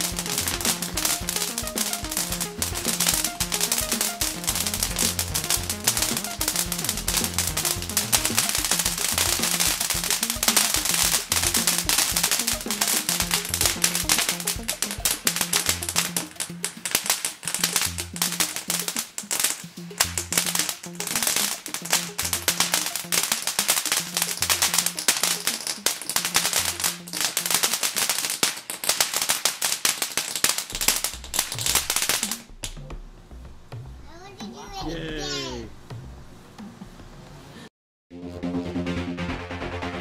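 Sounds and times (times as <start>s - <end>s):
music with bass line: 0.0s - 27.7s, 30.8s - 36.8s, 38.1s - 40.0s
fireworks crackling: 0.0s - 32.8s.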